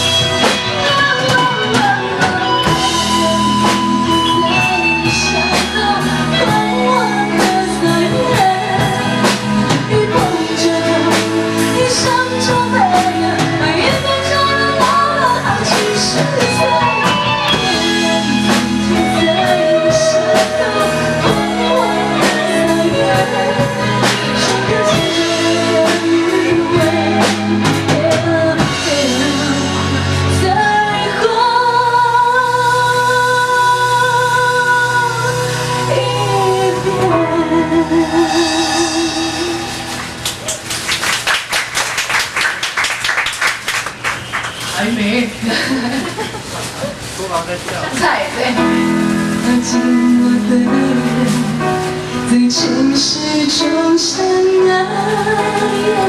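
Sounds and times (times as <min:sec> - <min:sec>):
person singing: 0:00.0 - 0:40.6, 0:48.4 - 0:56.0
drum kit: 0:00.0 - 0:44.9, 0:46.0 - 0:56.0
live rock band playing: 0:00.0 - 0:47.2, 0:47.9 - 0:56.0.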